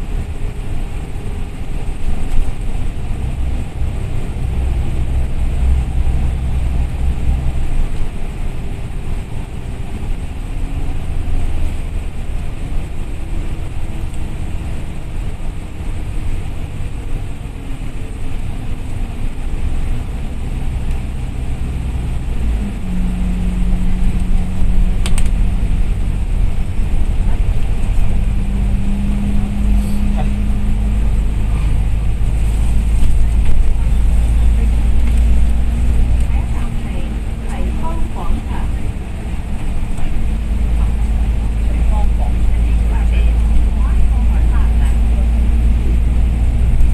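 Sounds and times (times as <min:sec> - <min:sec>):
bus engine drone: 0:00.0 - 0:46.9
engine hum rising in pitch: 0:00.0 - 0:46.9.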